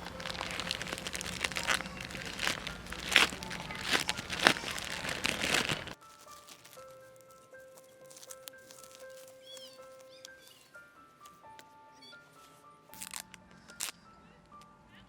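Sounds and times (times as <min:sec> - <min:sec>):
crinkling and crunching: 0:00.0 - 0:11.6, 0:12.9 - 0:14.0.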